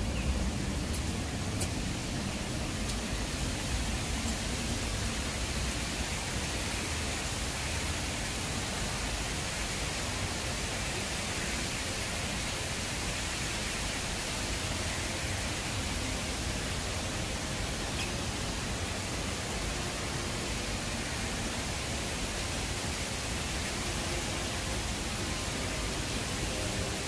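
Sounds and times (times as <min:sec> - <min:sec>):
light rain hiss: 0:00.0 - 0:27.0.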